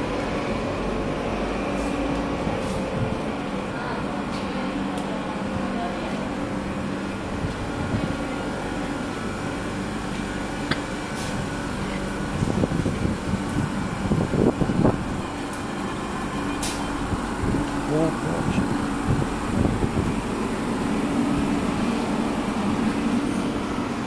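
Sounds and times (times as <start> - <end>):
train equipment humming drone: 0.0 - 24.0.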